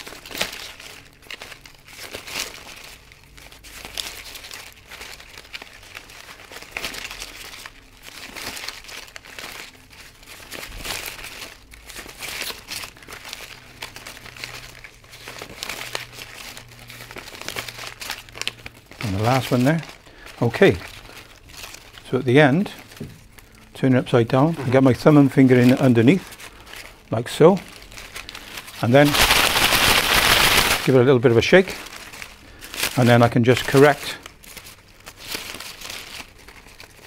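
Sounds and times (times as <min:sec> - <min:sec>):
ribbon rustling and crinkling: 0:00.0 - 0:37.0.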